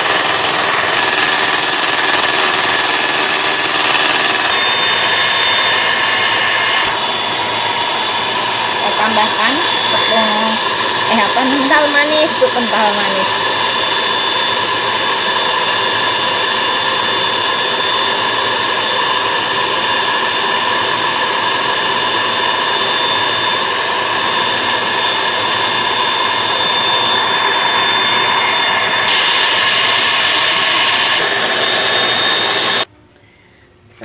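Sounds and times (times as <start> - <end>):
stand mixer whirring: 0.0 - 32.9.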